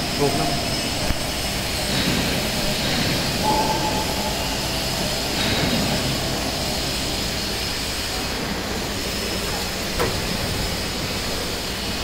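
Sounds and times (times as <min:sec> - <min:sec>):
printing press running: 0:00.0 - 0:12.0.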